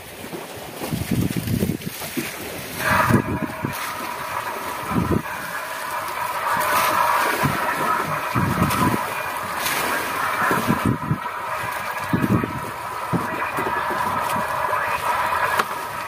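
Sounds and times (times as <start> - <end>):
sea rushing around boat: 0.0 - 16.0
wind buffeting microphone: 0.8 - 16.0
steady hum: 2.4 - 16.0.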